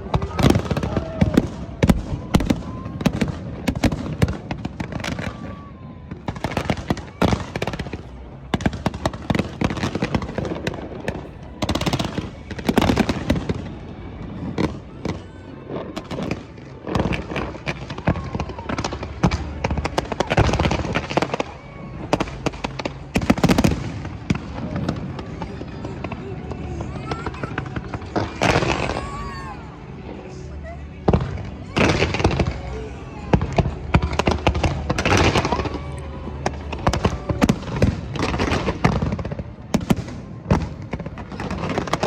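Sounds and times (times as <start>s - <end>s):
crowd voices: 0.0s - 42.0s
fireworks bangs and crackling: 0.0s - 42.0s.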